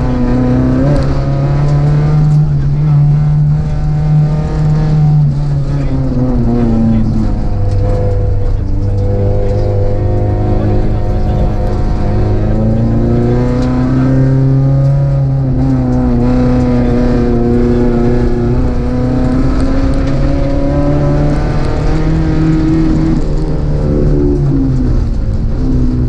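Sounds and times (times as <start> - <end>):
gravel road noise: 0.0 - 26.0
rally car engine revving: 0.0 - 26.0.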